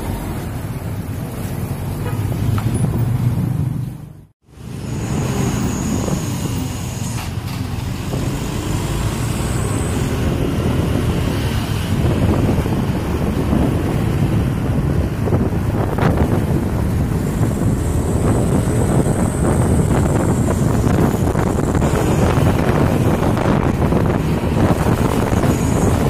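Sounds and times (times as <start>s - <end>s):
truck engines rumbling: 0.0s - 26.0s.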